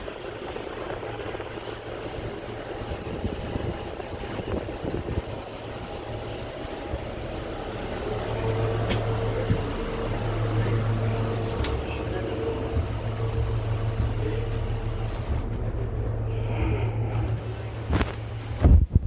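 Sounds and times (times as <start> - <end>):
aircraft and machinery drone: 0.0 - 19.0
mid-pitched whine: 0.0 - 19.0.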